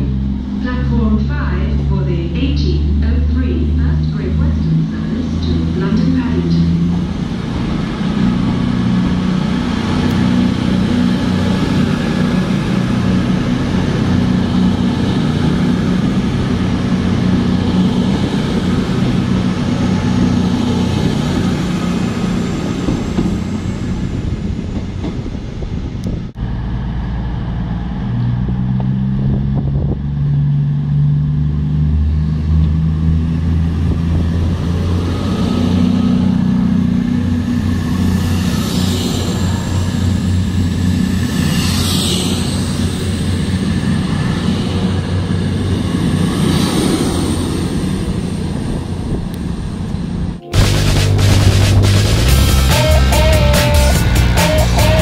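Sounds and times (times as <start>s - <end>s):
diesel engines droning: 0.0s - 55.0s
train wheels on rails: 2.9s - 28.9s, 32.0s - 55.0s.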